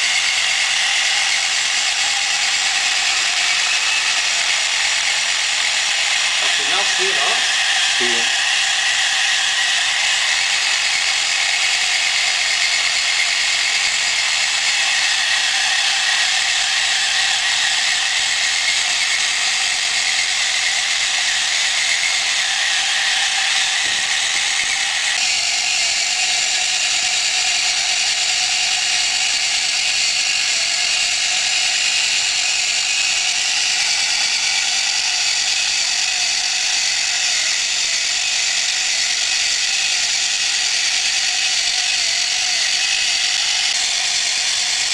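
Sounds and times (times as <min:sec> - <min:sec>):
electric motor gear whirring: 0:00.0 - 0:44.9.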